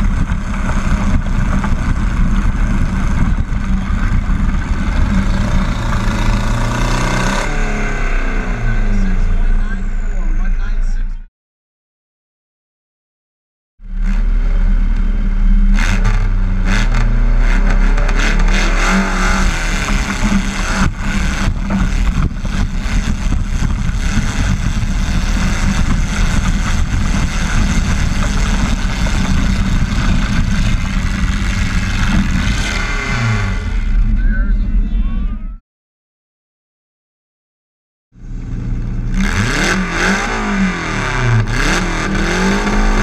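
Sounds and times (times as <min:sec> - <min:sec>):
tractor engine at full throttle: 0:00.0 - 0:11.2, 0:13.8 - 0:35.0, 0:38.2 - 0:43.0.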